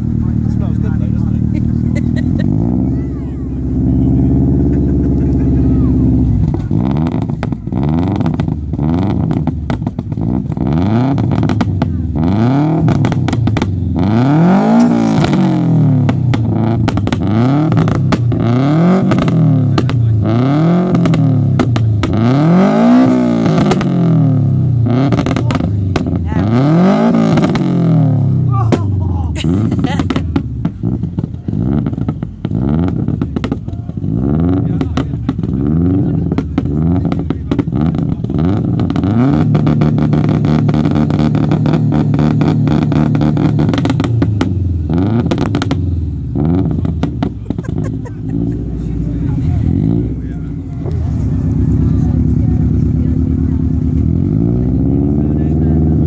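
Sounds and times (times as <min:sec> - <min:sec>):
car engine revving: 0:00.0 - 0:56.0
exhaust pops and bangs: 0:06.2 - 0:24.2, 0:24.8 - 0:26.4, 0:27.0 - 0:55.7.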